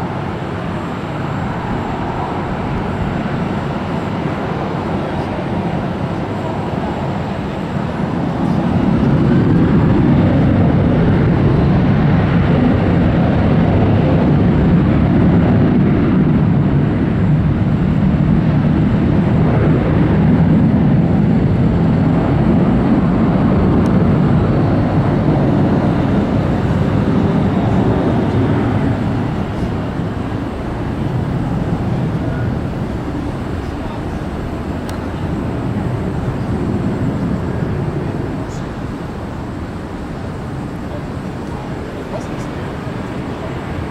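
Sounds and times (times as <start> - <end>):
jet airliner engines rumbling: 0.0 - 43.9.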